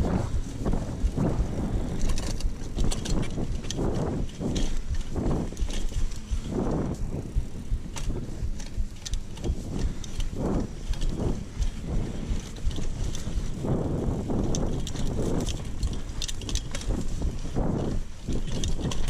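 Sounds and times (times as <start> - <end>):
bike rattling over bumps: 0.0 - 19.0
bike tyres rolling on dirt: 0.0 - 19.0
steady low rumble: 0.0 - 19.0.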